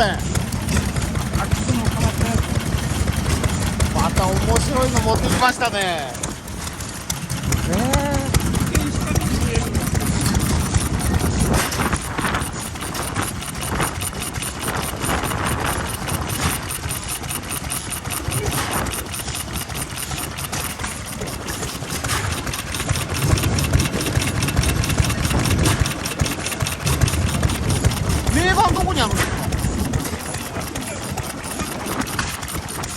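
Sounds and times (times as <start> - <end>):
stationary engine running: 0.0 - 32.9.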